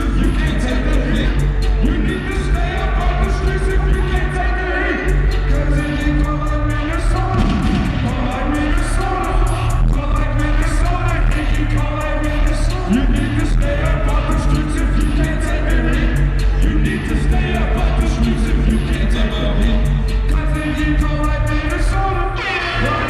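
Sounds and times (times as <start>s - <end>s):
faint crowd: 0.0s - 23.0s
hip-hop music over sound system: 0.0s - 23.0s.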